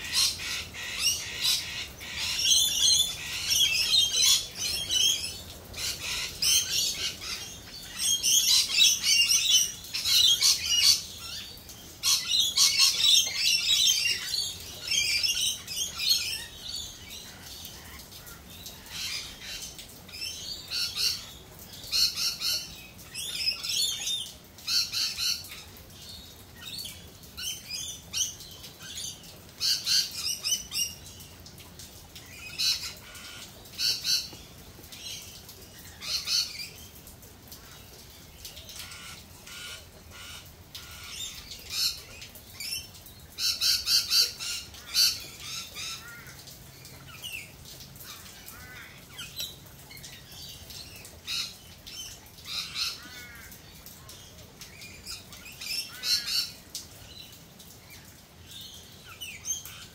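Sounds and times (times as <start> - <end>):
birds squawking and chattering: 0.0 - 59.9.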